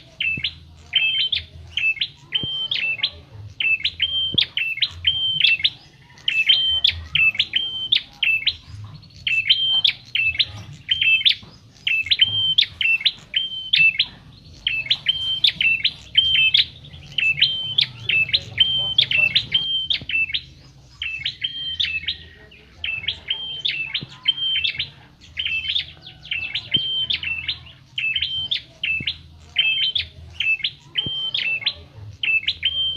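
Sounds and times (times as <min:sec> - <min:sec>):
small bird chirping: 0:00.0 - 0:32.9.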